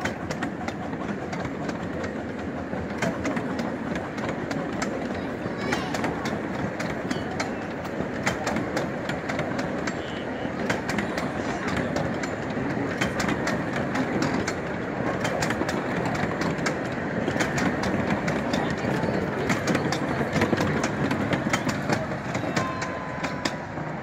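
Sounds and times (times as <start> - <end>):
train cars rumbling on rails: 0.0 - 24.0
wheels clicking over rail joints: 0.0 - 24.0.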